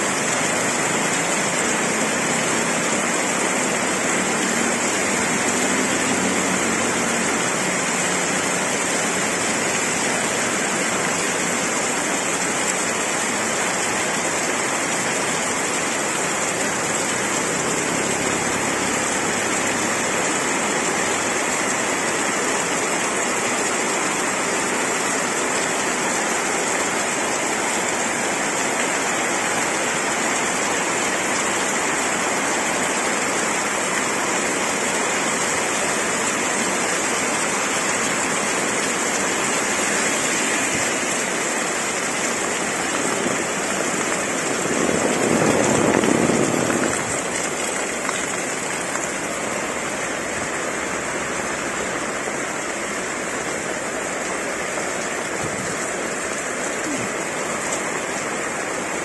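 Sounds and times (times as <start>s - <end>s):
heavy rain on road and roofs: 0.0s - 59.0s
water pouring off awning: 0.0s - 59.0s.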